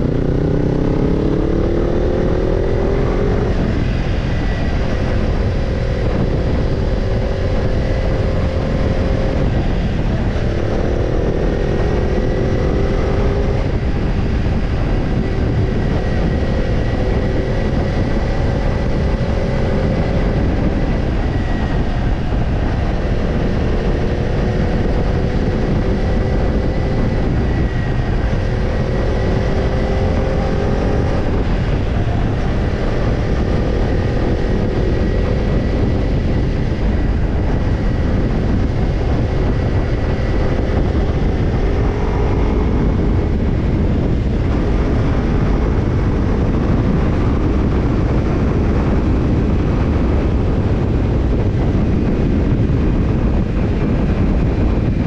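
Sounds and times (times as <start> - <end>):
motorcycle exhaust cruising: 0.0 - 55.0
wind and road rush: 0.0 - 55.0.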